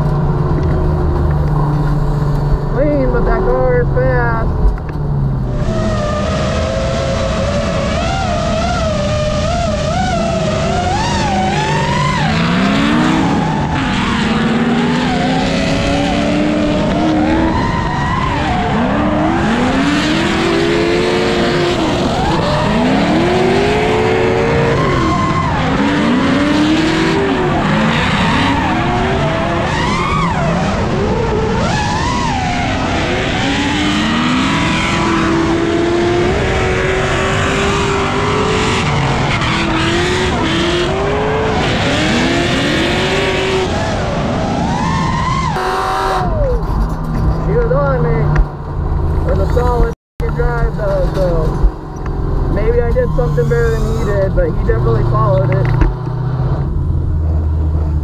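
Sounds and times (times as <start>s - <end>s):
car engine revving: 0.0s - 58.0s
tyres squealing and skidding: 5.5s - 48.1s, 50.4s - 55.3s.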